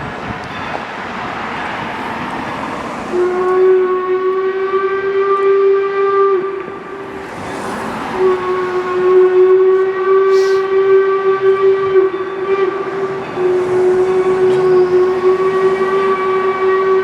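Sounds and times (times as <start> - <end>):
steam locomotive rushing: 0.0 - 17.0
steam whistle blast: 3.1 - 17.0.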